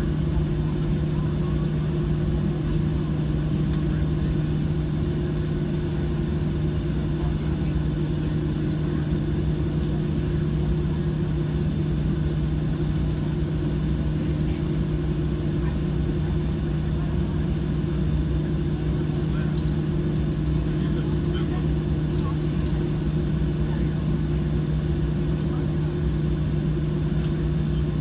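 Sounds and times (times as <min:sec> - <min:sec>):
aircraft cabin engine drone: 0:00.0 - 0:28.0.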